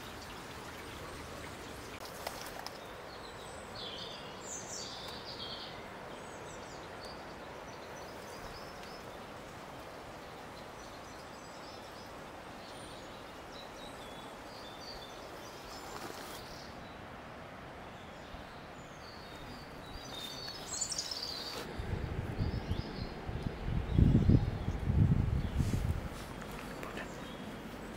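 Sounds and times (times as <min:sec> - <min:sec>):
distant birds chirping: 0:00.0 - 0:27.9
steady background hiss: 0:00.0 - 0:27.9.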